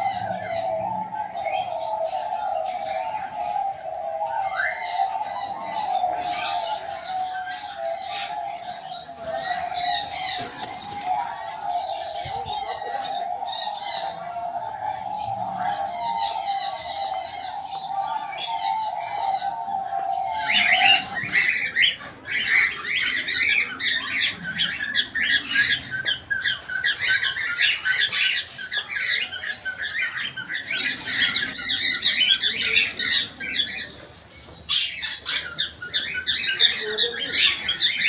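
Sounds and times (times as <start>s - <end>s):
cockatiels chirping and squawking: 0.0s - 38.0s.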